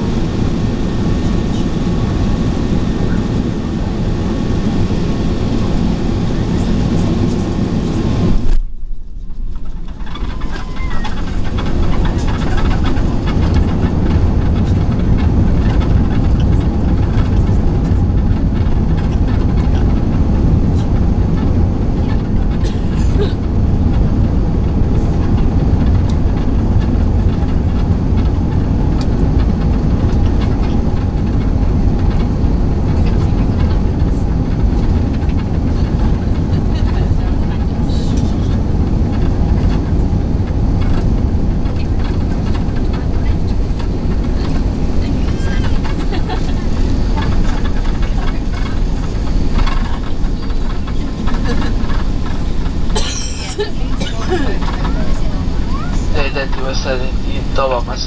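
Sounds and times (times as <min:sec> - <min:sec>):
aircraft engine and wheel rumble: 0:00.0 - 0:58.0.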